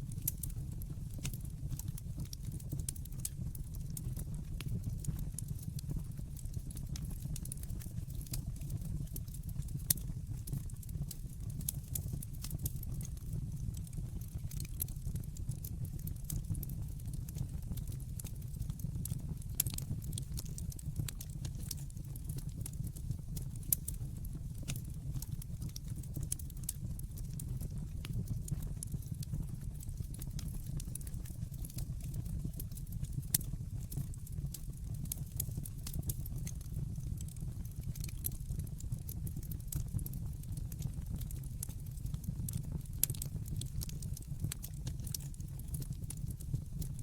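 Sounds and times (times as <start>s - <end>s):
fire crackling and popping: 0.0s - 47.0s
fire low rumble: 0.0s - 47.0s.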